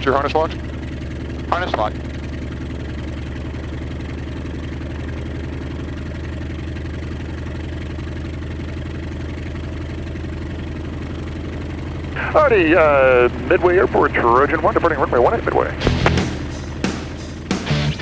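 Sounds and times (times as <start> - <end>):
radial engine idling: 0.0 - 18.0.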